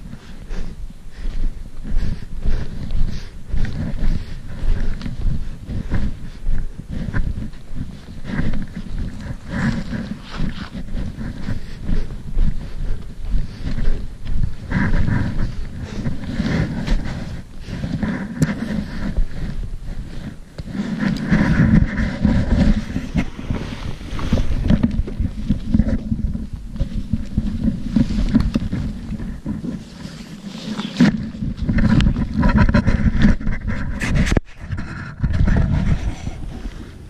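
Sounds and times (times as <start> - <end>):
fabric brushing microphone: 0.0 - 37.0
footsteps crunching in snow: 0.0 - 37.0
wind on microphone: 0.0 - 37.0.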